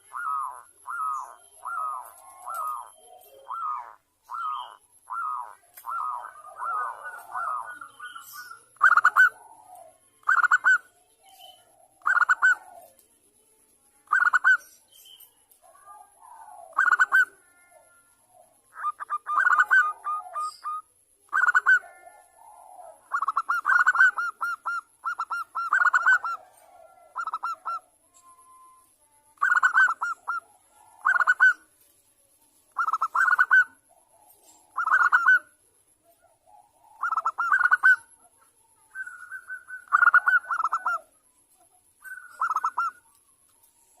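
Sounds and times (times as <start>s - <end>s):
dove cooing: 0.0s - 13.1s, 14.0s - 14.7s, 15.6s - 31.7s, 32.7s - 43.2s.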